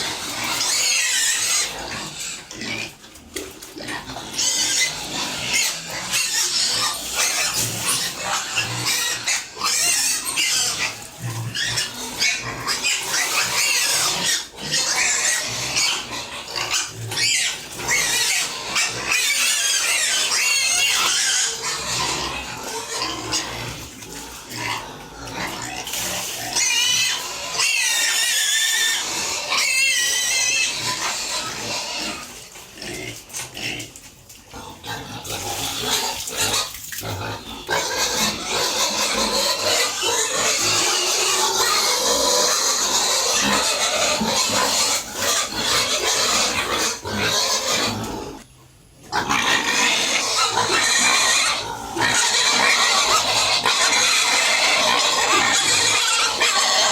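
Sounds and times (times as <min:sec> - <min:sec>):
high-pitched pig squeals: 0:00.0 - 0:56.9
pigs calling: 0:00.0 - 0:56.9.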